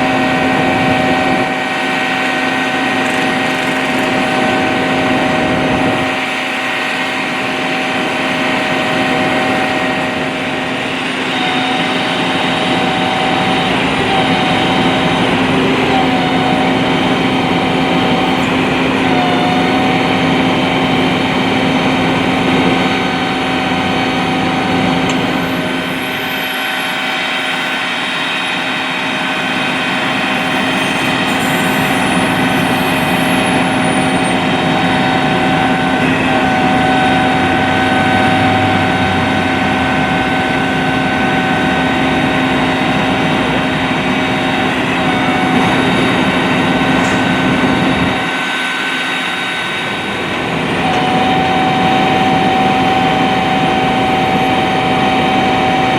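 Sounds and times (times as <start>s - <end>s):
large vehicle engine idling: 0.0s - 55.9s.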